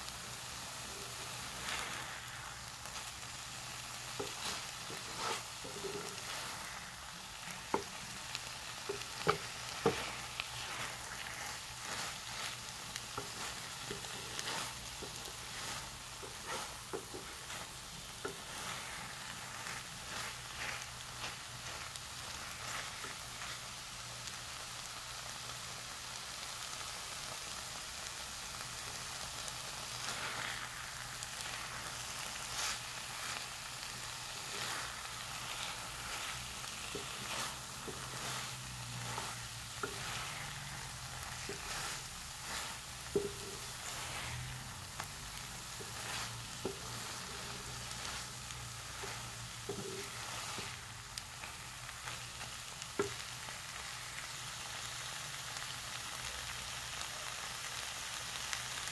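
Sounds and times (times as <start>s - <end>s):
food sizzling in a frying pan: 0.0s - 58.9s
wooden spatula scraping a pan: 0.5s - 23.8s, 28.8s - 54.6s.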